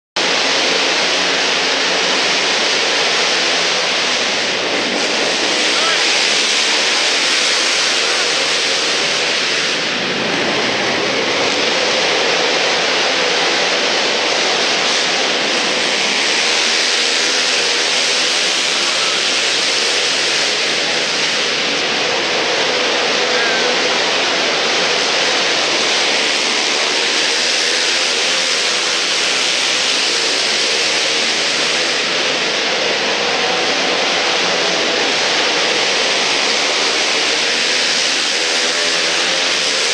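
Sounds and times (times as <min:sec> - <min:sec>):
quad engines revving: 0:00.0 - 0:39.9.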